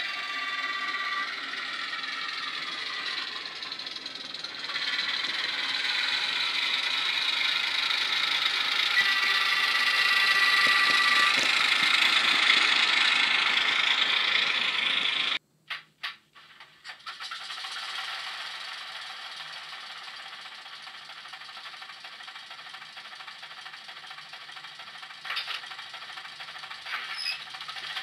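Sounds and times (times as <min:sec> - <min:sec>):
diesel locomotive engine: 0:00.0 - 0:15.4, 0:16.9 - 0:28.0.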